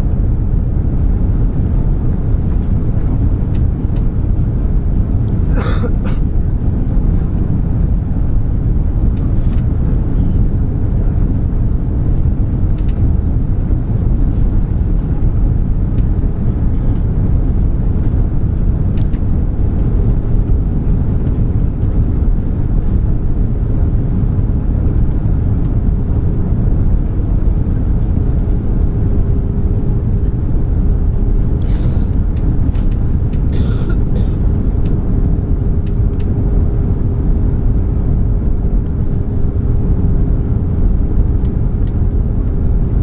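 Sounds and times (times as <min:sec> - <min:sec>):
aircraft cabin engine rumble: 0:00.0 - 0:43.0
constant hum tone: 0:00.0 - 0:43.0.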